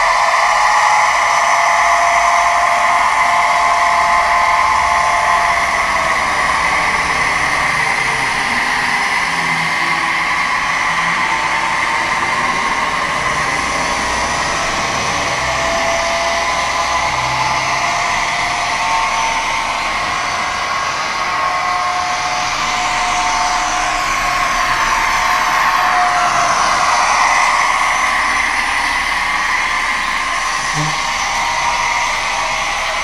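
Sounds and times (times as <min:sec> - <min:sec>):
model train electric whirr: 0:00.0 - 0:33.0.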